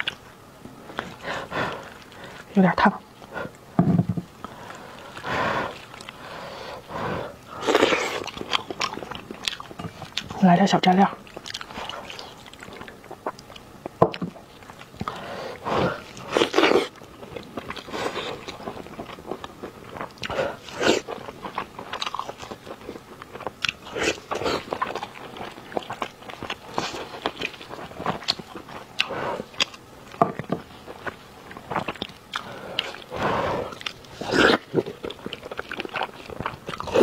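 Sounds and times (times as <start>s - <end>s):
wet sticky chewing: 4.4s - 10.5s, 11.2s - 15.2s, 15.9s - 37.0s.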